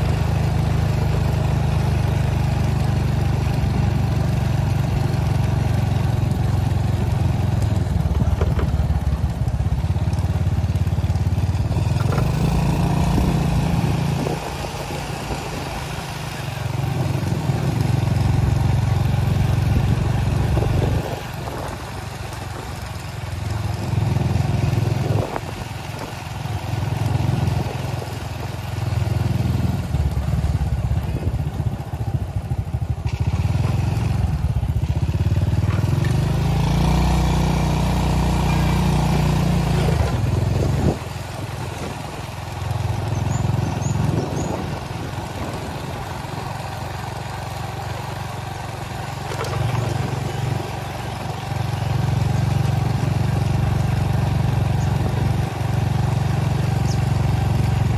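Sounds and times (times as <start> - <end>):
vehicle engine running: 0.0 - 57.9.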